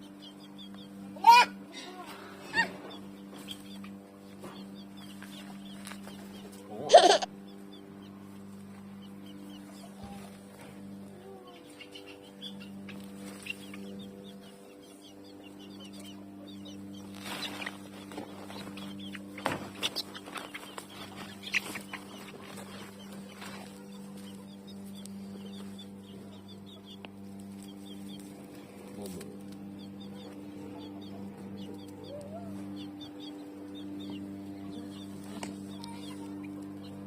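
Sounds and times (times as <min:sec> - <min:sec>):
birds chirping: 0:00.0 - 0:37.0
steady low hum: 0:00.0 - 0:37.0.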